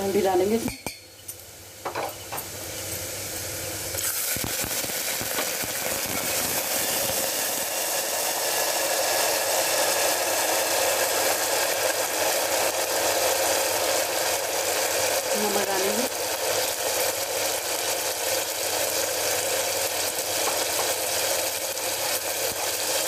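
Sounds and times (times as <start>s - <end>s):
masala sizzling in hot oil: 0.0s - 23.0s.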